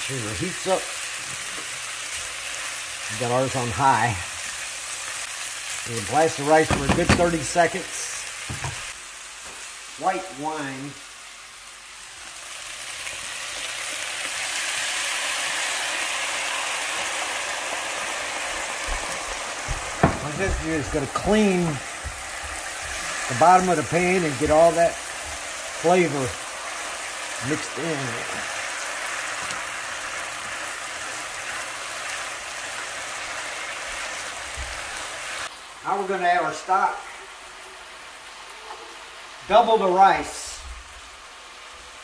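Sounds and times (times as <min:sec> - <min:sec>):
wine sizzling in a hot skillet: 0:00.0 - 0:42.0.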